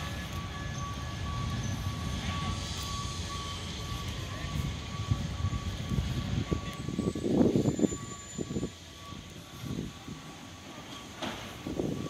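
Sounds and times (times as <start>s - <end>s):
high electronic beeping tone: 0.0s - 10.0s
steady low rumble: 0.0s - 10.9s.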